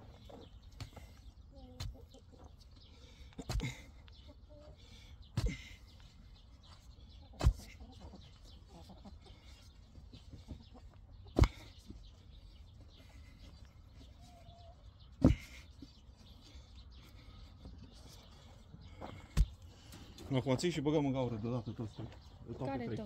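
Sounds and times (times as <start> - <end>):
faint birds calling: 0.0 - 23.0.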